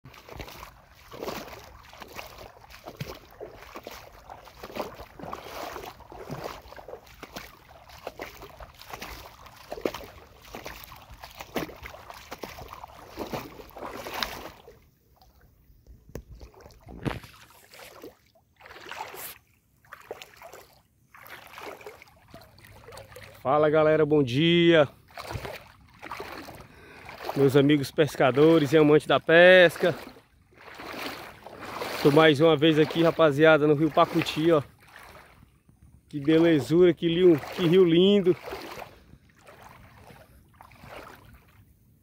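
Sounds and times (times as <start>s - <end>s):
water lapping and splashing: 0.0s - 42.0s.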